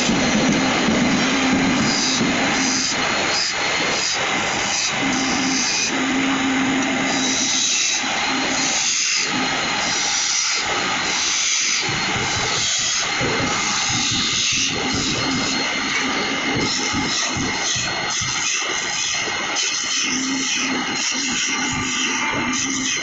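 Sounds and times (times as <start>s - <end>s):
lathe tool cutting wood hiss: 0.0s - 23.0s
low motor hum: 0.0s - 23.0s.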